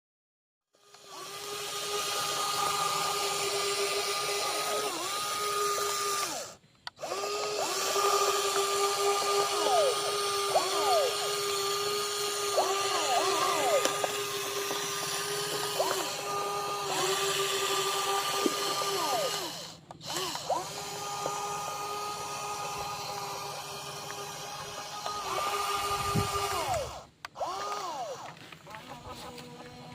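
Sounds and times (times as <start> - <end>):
small electric motors whining: 0.7 - 29.9.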